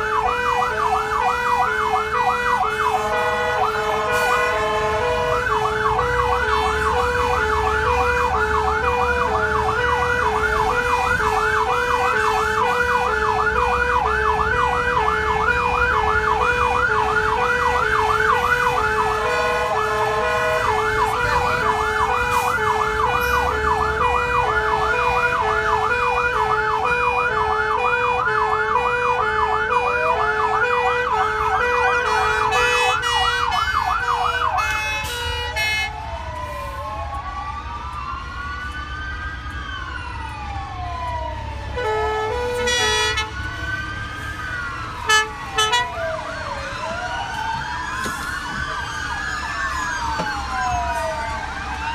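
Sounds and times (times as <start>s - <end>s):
diesel engine rumbling: 0.0s - 51.9s
siren yelp: 0.0s - 51.9s
two-tone hi-lo siren: 0.0s - 51.9s.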